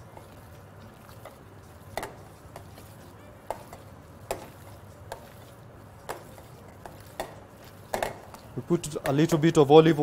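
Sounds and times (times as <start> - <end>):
hands mixing meat in bowl: 0.0 - 10.0.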